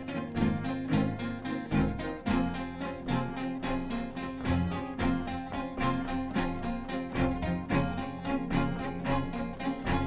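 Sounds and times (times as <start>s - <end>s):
acoustic guitars strummed: 0.0s - 10.0s.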